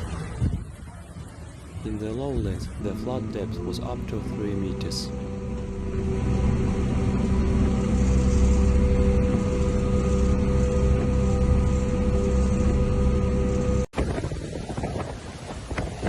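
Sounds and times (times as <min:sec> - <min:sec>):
wind on microphone: 0:00.0 - 0:16.0
engine drone: 0:01.0 - 0:14.2.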